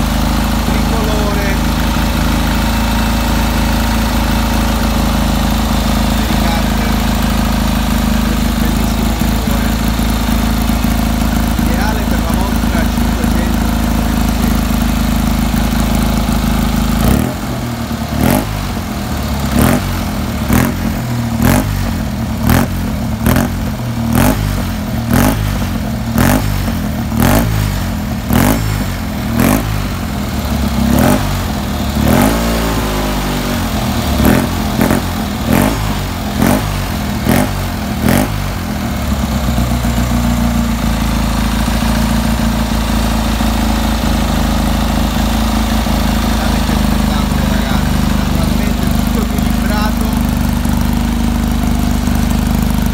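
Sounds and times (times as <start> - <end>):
car engine idling and revving: 0.0 - 52.9.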